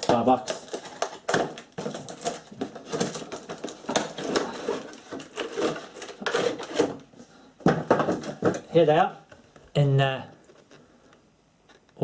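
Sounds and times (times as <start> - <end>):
cardboard and plastic crackling: 0.0 - 9.7.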